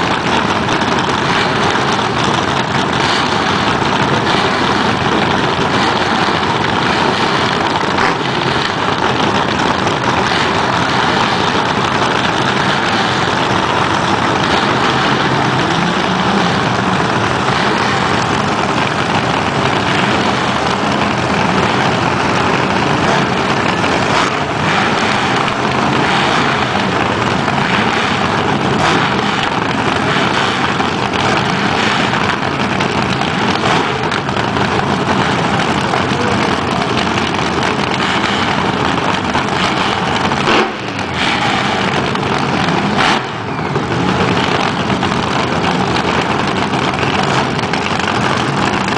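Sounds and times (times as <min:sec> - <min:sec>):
dragster engines idling: 0:00.0 - 0:48.9.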